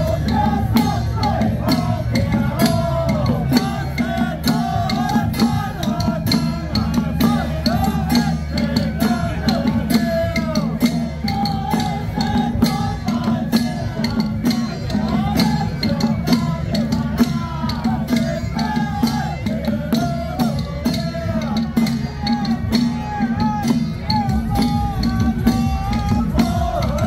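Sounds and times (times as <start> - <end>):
crowd noise: 0.0 - 27.0
rapid percussion clashing: 0.0 - 27.0.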